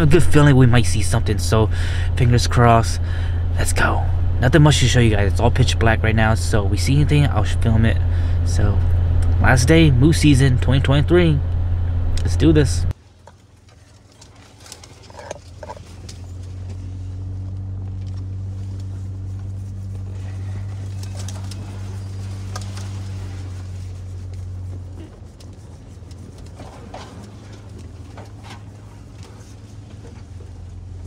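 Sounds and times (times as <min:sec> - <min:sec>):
truck engine droning: 0:00.0 - 0:31.0.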